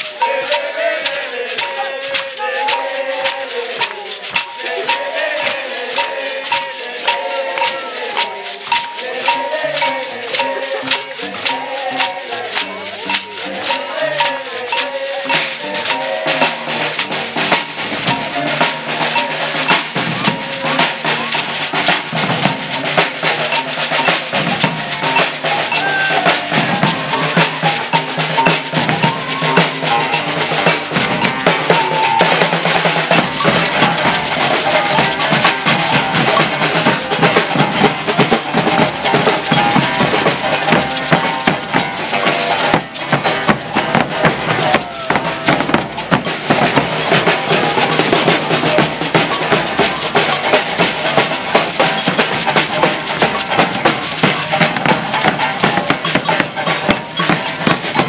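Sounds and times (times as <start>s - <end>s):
metal shakers rattling: 0.0s - 58.0s
snare drums: 0.0s - 58.0s
voices singing: 0.0s - 58.0s
bass drums: 2.6s - 58.0s.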